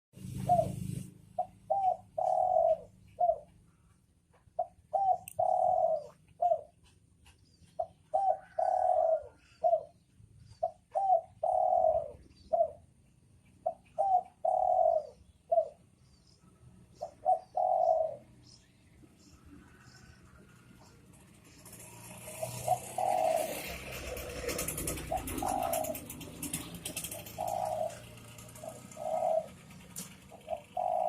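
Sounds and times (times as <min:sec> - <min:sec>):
dove cooing: 0:00.2 - 0:16.0, 0:16.9 - 0:18.6, 0:19.6 - 0:31.0.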